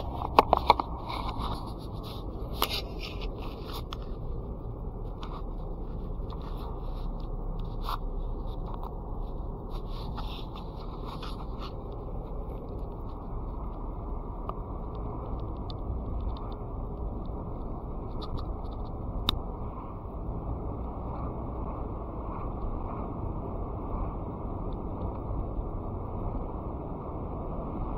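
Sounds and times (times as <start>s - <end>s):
car road and engine rumble: 0.0s - 27.9s.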